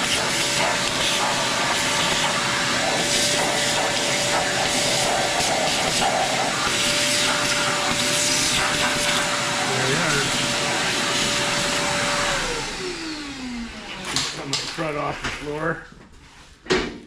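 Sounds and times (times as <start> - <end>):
shop vac running: 0.0 - 16.4.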